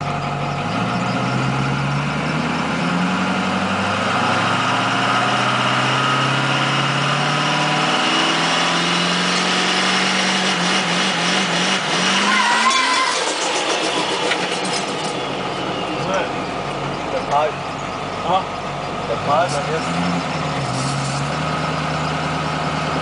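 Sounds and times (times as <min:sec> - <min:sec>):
diesel pickup engine pulling: 0:00.0 - 0:23.0.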